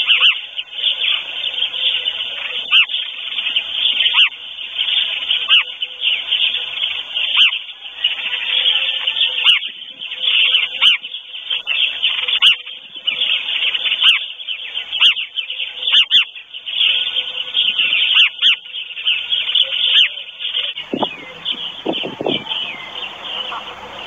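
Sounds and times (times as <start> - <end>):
sharp bird calls: 0.0 - 24.0
songbirds chirping and whistling: 0.0 - 24.0.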